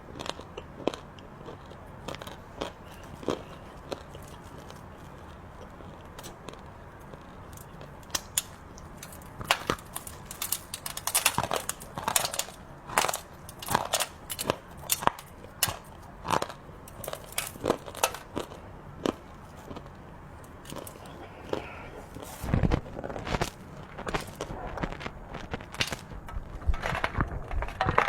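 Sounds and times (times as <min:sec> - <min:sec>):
chocolate sweets crunching: 0:00.0 - 0:28.0.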